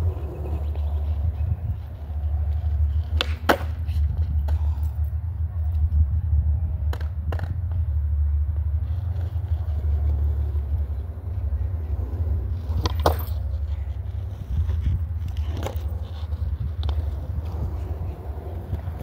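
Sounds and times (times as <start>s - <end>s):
skateboard clacks: 0.0s - 4.8s, 6.7s - 19.0s
skateboard rolling on concrete: 0.0s - 19.0s.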